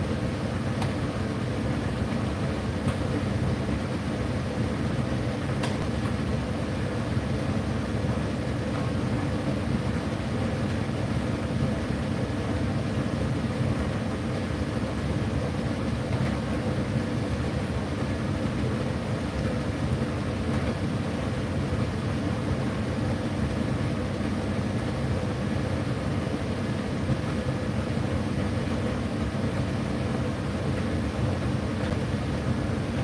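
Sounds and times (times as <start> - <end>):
tumble dryer running: 0.0 - 33.0.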